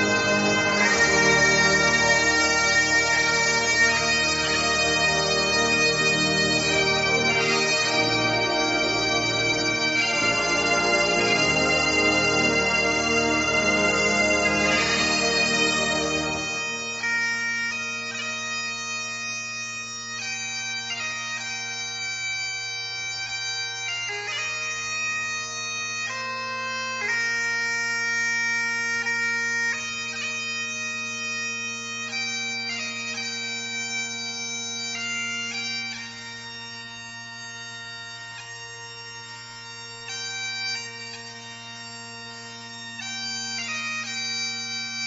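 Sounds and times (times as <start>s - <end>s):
bagpipes playing slow tune: 0.0s - 45.0s.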